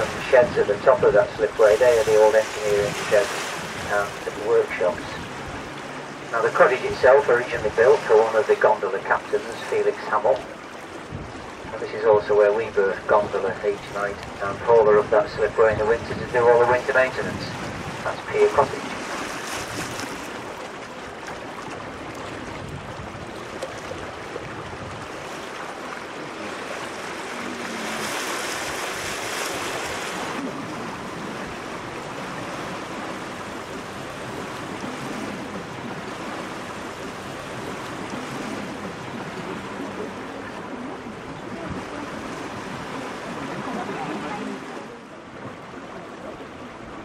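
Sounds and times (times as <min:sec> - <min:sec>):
water rushing along boat hull: 0:00.0 - 0:47.0.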